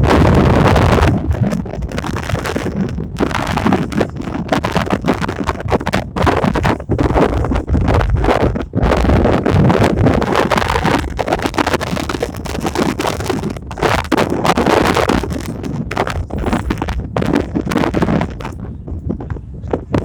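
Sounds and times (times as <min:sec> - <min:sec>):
gusty wind buffeting microphone: 0:00.0 - 0:20.0.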